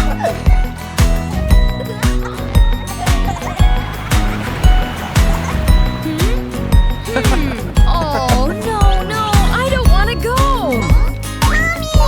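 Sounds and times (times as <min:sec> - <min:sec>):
instrumental children's music: 0:00.0 - 0:12.0
kick drum thumps: 0:00.0 - 0:12.0.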